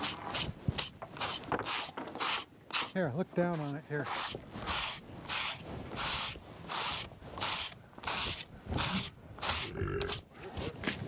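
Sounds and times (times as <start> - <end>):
hand scraper scraping wood: 0.0 - 11.0.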